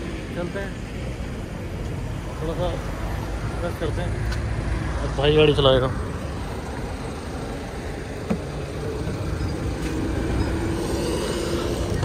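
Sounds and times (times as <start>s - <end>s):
highway traffic: 0.0s - 12.0s.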